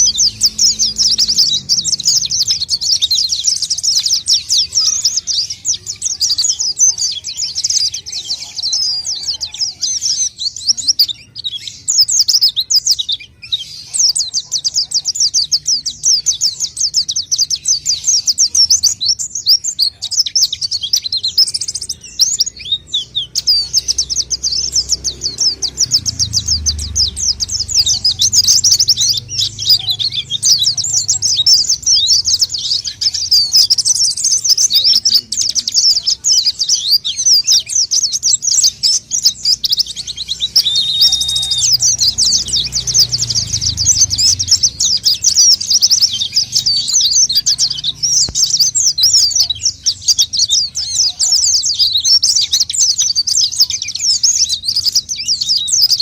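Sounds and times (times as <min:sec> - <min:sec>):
rapid bird twittering: 0:00.0 - 0:56.0.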